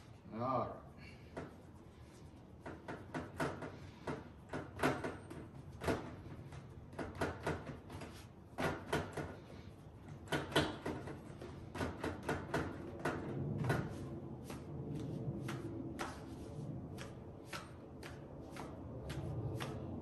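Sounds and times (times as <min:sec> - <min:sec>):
fingers patting dough on wood: 0:02.5 - 0:20.0.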